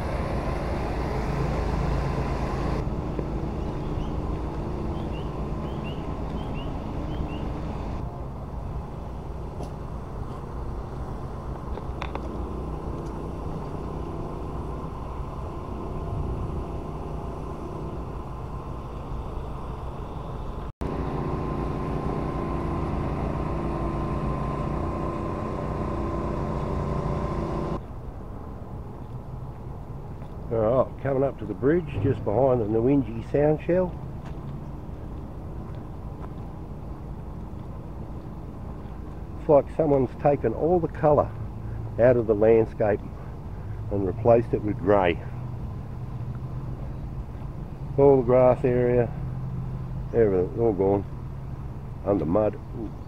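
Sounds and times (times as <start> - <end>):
petrol engine droning with whine: 0.0 - 28.8, 29.6 - 53.0.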